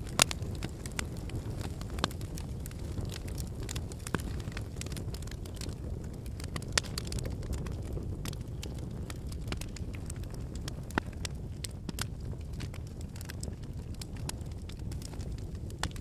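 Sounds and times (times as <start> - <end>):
campfire flames rushing: 0.0 - 16.0
logs crackling and popping: 0.0 - 16.0.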